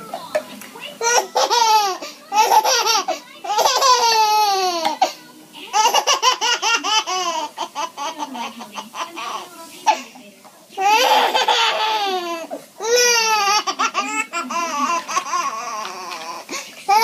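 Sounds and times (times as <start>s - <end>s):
baby laughing hysterically: 1.0s - 5.1s, 5.7s - 9.4s, 10.8s - 17.0s.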